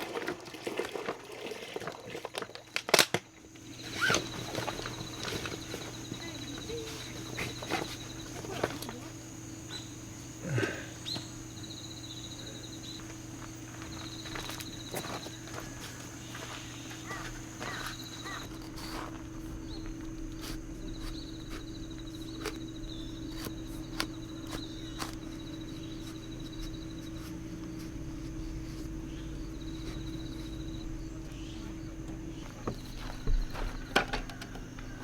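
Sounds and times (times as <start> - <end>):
steady low hum: 3.4 - 35.0
insect trilling: 3.6 - 35.0.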